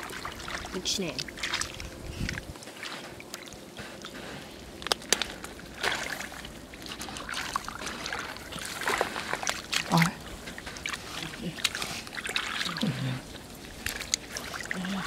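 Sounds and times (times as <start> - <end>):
water dripping: 0.0 - 2.6, 3.2 - 15.0
muddy water sloshing and trickling: 0.0 - 15.0
sharp water splashes: 0.0 - 15.0.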